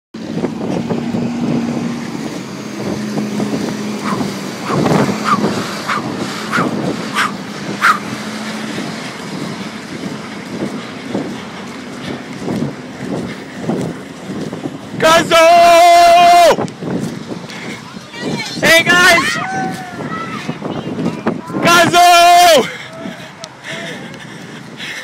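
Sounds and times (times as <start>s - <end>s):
vehicle engine low hum: 0.2s - 21.6s, 22.4s - 25.0s
wind noise on microphone: 0.2s - 25.0s.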